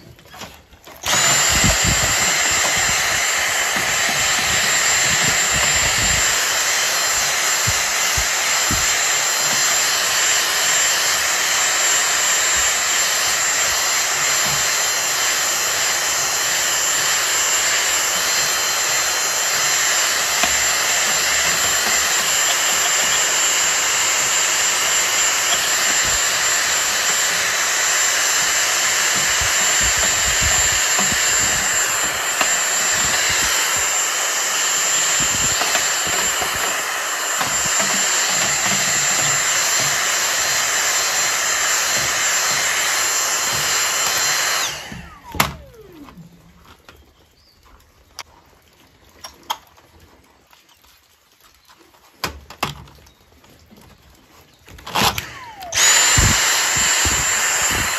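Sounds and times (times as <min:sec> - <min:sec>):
handheld vacuum cleaner whining: 0:00.0 - 0:47.6, 0:54.6 - 0:57.9.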